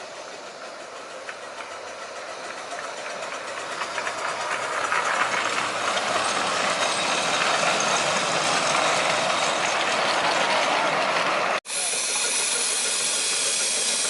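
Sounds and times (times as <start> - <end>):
miniature train running: 0.0 - 14.0
wheels clicking over rails: 0.0 - 14.0.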